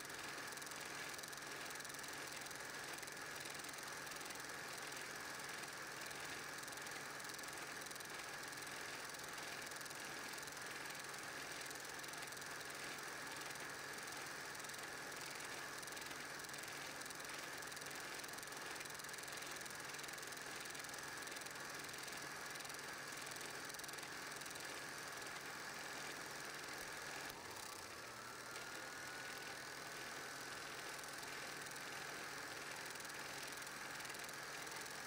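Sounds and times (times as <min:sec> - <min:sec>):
film projector whirring and rattling: 0:00.0 - 0:35.0.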